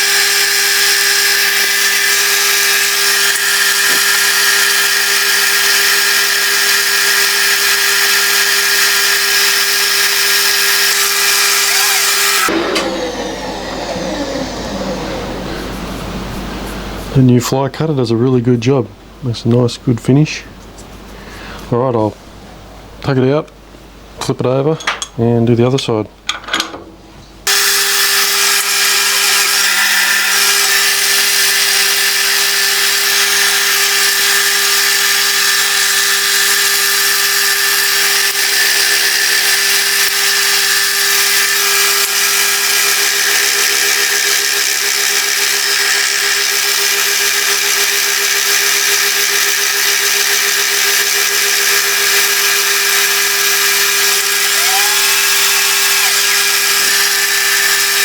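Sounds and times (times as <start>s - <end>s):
milling machine humming and hissing: 0.0s - 17.2s, 27.5s - 58.0s.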